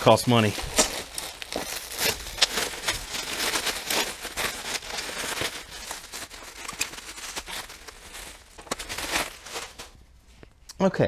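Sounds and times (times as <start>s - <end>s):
bubble wrap crinkling: 0.0s - 10.7s.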